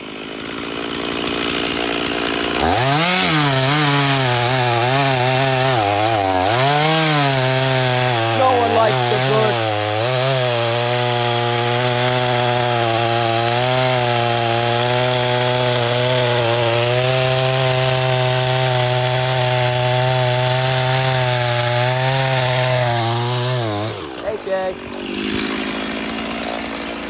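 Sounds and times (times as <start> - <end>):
chainsaw cutting log: 0.0 - 27.0.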